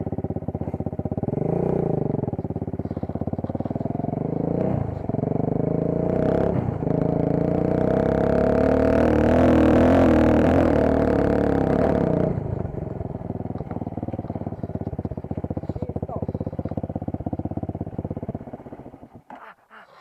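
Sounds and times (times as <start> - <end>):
dirt bike engine revving and idling: 0.0 - 19.4.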